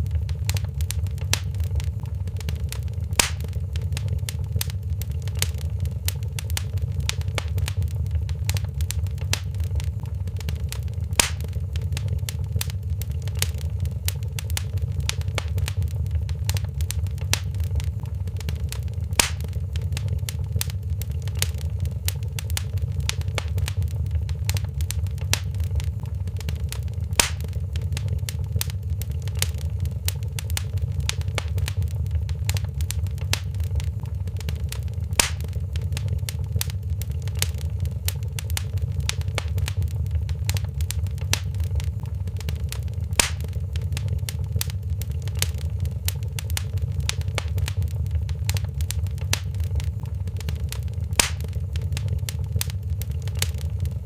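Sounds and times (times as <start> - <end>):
low rumble of flames: 0.0 - 54.0
sharp fire pops: 0.0 - 54.0
wood fire crackling: 0.0 - 54.0.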